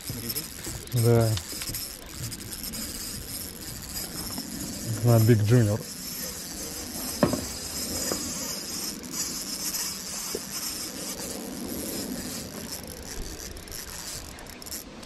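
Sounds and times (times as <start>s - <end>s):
fishing reel gear whir: 0.0s - 15.0s.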